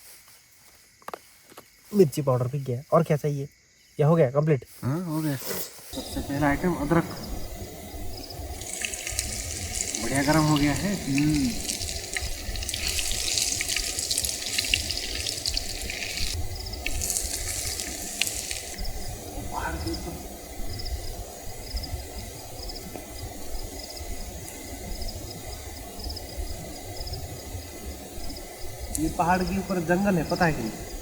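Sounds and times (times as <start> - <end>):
crackly water-like hiss: 0.0 - 2.5, 4.7 - 31.0
crickets chirping: 0.0 - 31.0.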